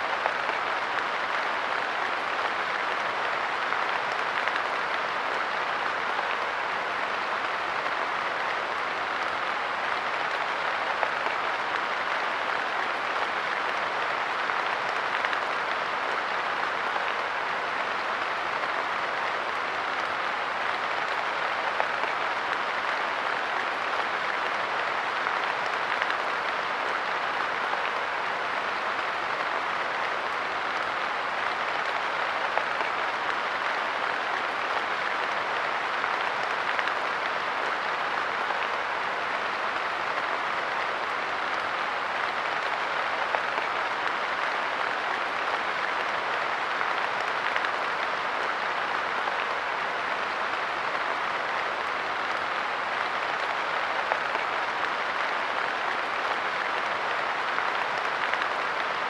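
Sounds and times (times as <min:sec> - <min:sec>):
light rain pattering on a bench: 0:00.1 - 0:59.0.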